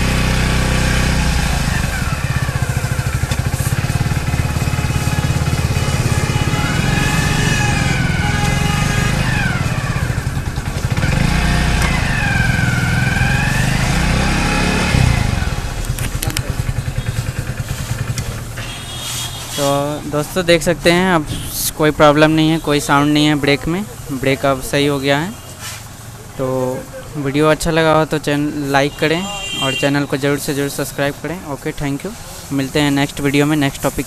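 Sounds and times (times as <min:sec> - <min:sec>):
motorcycle engine running: 0:00.0 - 0:28.7.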